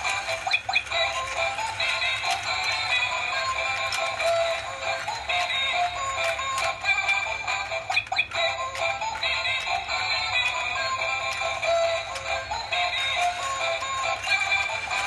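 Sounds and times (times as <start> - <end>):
plastic figures clacking: 0.0 - 15.0
toy playing electronic tune: 0.0 - 15.0.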